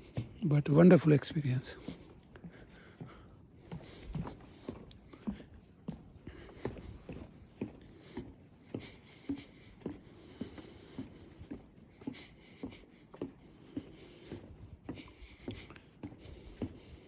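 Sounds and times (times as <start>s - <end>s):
footsteps on wooden boardwalk: 0.0s - 17.0s.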